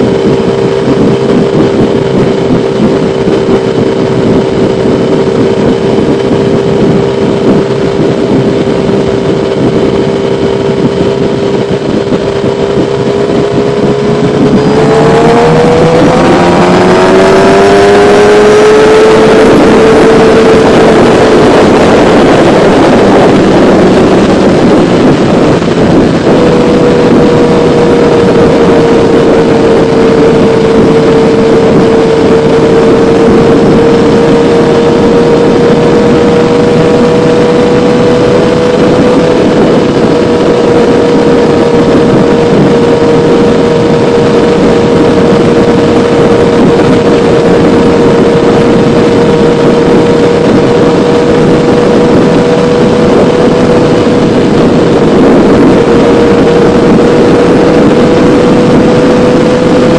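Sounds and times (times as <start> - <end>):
motorcycle engine: 0.0 - 59.9
rushing wind: 0.0 - 59.9.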